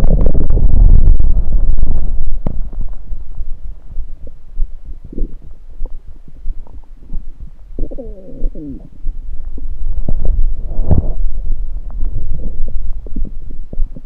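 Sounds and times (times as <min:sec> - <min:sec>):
stomach gurgling: 0:00.0 - 0:14.0.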